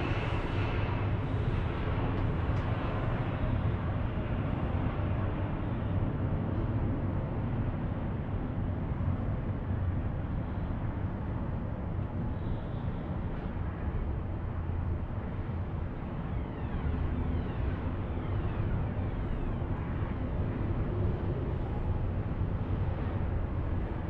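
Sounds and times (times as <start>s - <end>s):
cable car cabin rumble and hiss: 0.0s - 24.0s.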